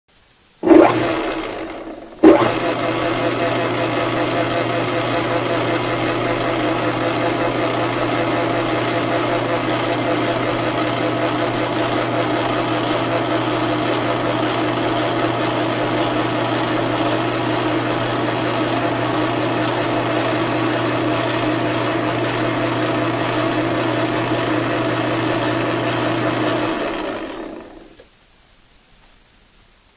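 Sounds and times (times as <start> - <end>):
lathe humming: 0.6 - 28.0.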